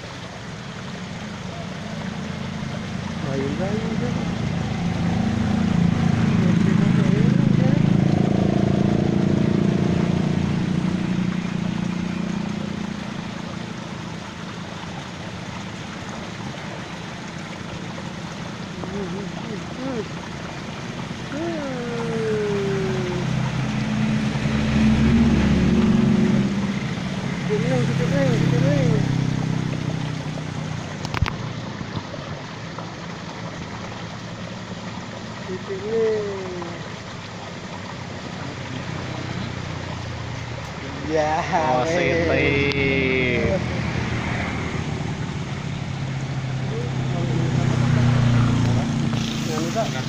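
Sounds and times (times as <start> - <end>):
motor humming: 0.0 - 50.0
stream water rushing: 0.0 - 50.0.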